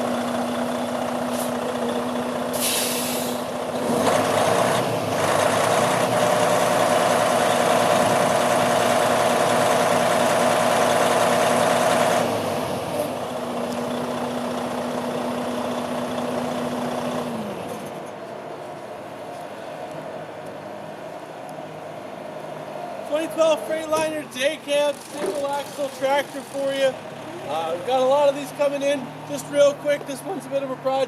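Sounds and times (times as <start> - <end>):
diesel truck engine running: 0.0 - 18.0, 22.1 - 30.0.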